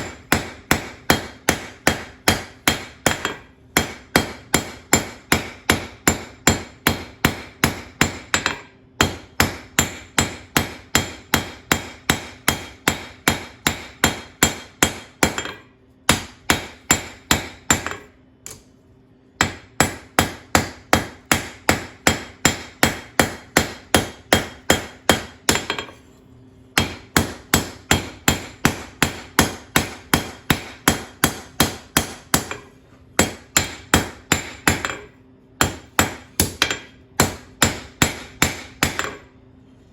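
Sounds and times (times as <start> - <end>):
hammer striking steel on anvil: 0.0 - 18.7, 19.4 - 26.0, 26.8 - 39.3.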